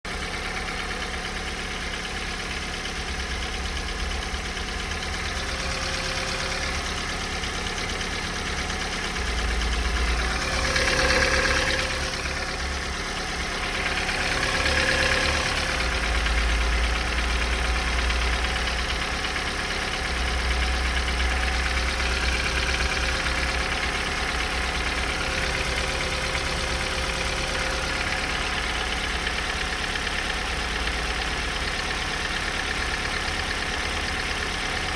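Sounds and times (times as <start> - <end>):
petrol engine knocking: 0.1 - 34.9.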